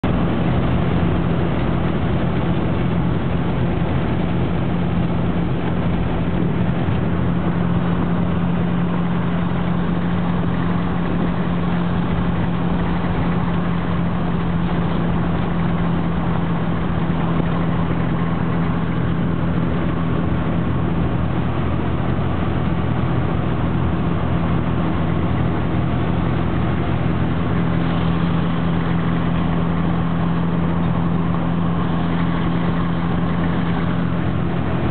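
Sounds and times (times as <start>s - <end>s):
background rush: 0.0s - 34.9s
car engine humming: 0.0s - 34.9s.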